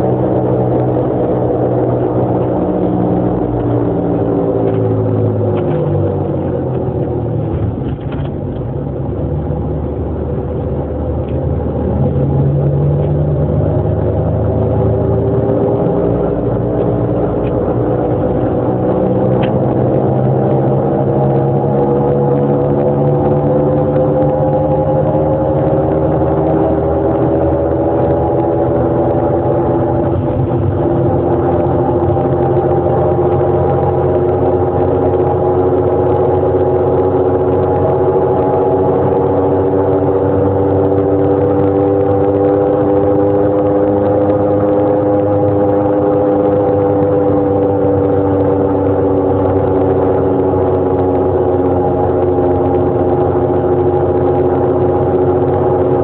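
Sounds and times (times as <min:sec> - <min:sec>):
car droning hum: 0:00.0 - 0:56.0.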